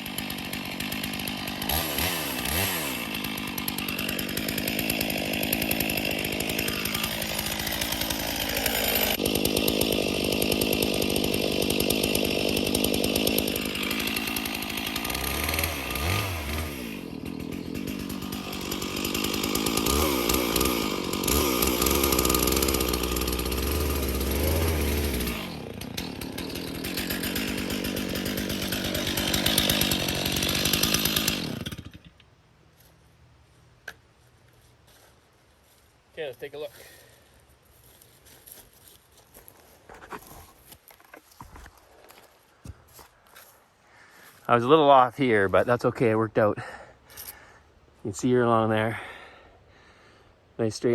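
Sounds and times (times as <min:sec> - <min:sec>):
chainsaw cutting wood: 0:00.0 - 0:32.3, 0:36.4 - 0:43.5, 0:44.1 - 0:50.9.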